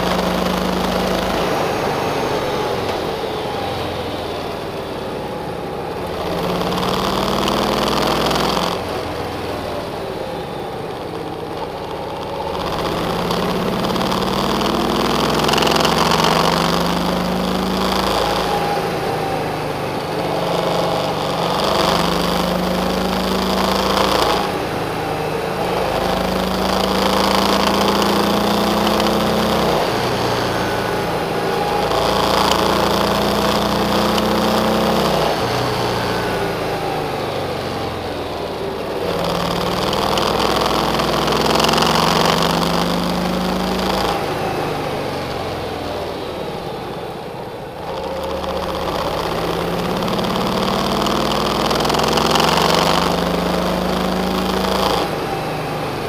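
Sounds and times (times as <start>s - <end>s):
car engine accelerating: 0.0s - 56.0s
road noise: 0.0s - 56.0s.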